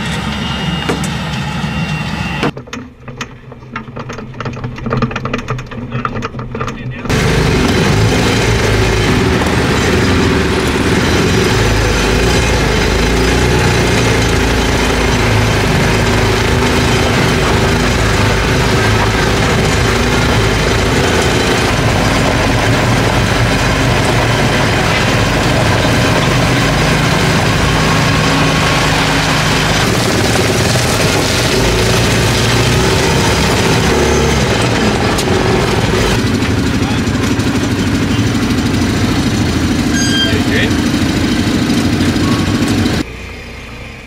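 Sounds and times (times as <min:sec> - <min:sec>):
race car engine running: 0:04.4 - 0:44.0.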